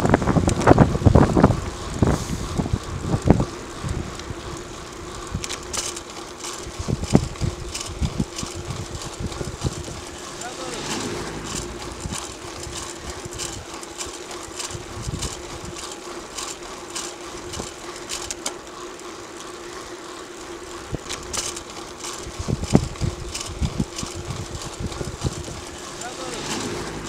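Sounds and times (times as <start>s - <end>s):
bike rattling and clicking: 0.0s - 27.0s
bike tyres humming on asphalt: 0.0s - 27.0s.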